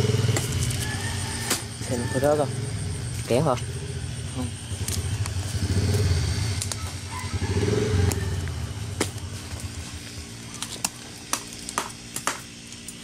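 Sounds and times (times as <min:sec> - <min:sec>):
motorbike engine passing: 0:00.0 - 0:10.5.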